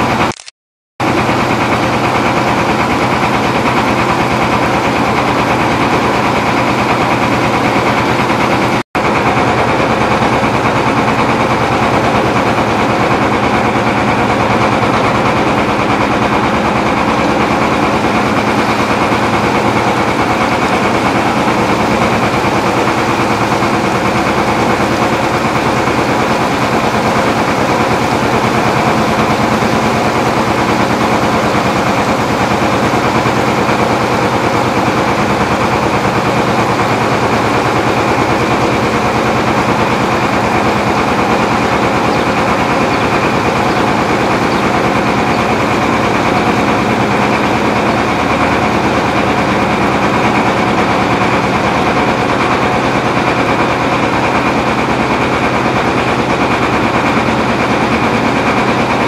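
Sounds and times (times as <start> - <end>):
small boat engine chugging: 1.0 - 59.0.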